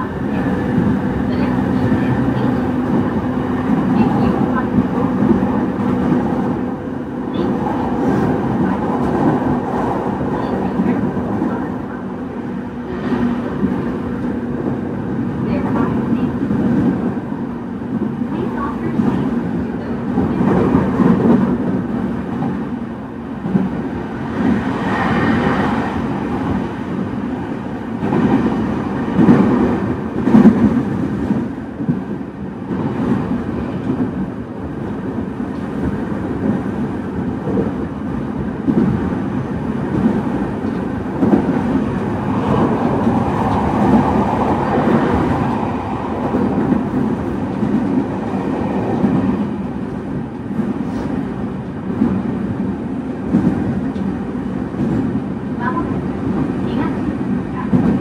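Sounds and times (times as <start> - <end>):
electric train rumbling on track: 0.0 - 58.0.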